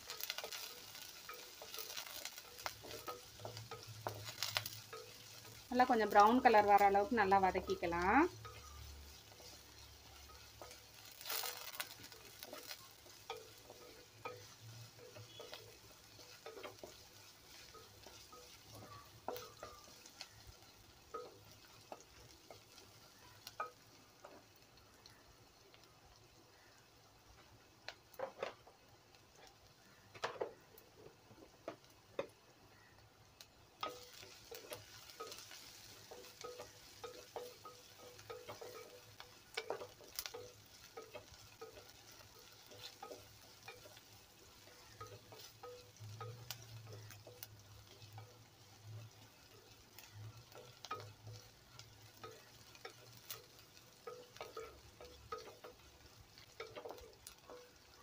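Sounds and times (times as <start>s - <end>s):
wooden spatula stirring in pot: 0.0s - 25.3s, 33.7s - 58.0s
oil sizzling: 0.0s - 58.0s.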